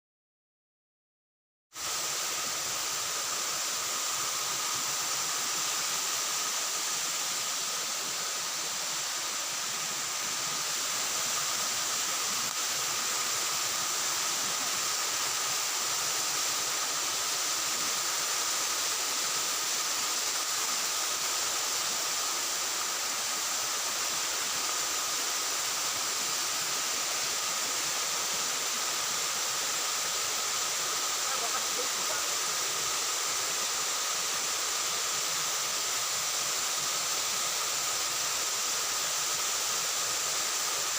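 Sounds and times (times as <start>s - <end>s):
flowing water rushing: 1.8s - 40.9s.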